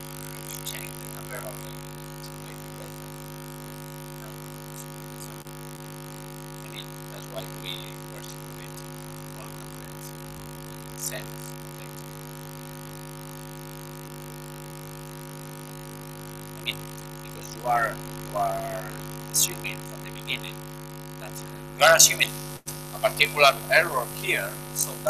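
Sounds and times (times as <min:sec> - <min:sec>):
electrical hum: 0:00.0 - 0:25.0.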